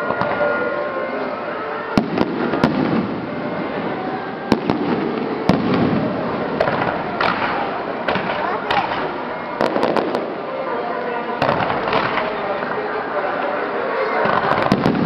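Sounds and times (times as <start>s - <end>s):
fireworks bangs: 0.0s - 10.6s, 11.3s - 15.0s
background noise: 0.0s - 15.0s.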